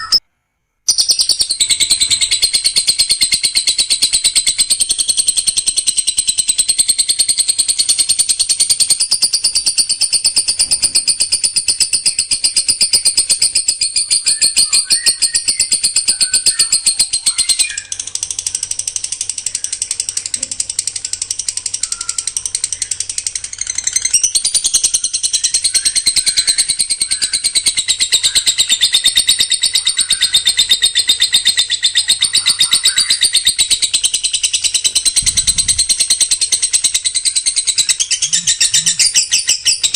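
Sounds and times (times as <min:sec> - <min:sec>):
songbird fast trill: 0:00.0 - 0:00.2, 0:00.9 - 0:39.9.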